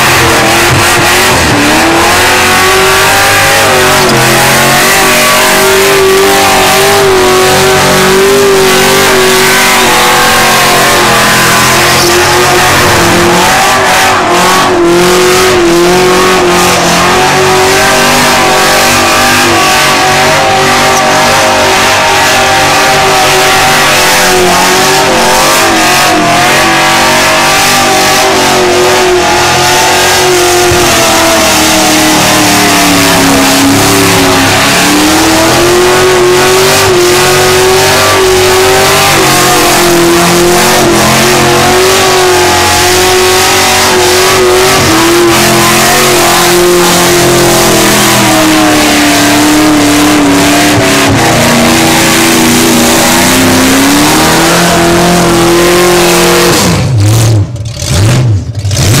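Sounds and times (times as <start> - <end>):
engine revving high: 0.0 - 59.0.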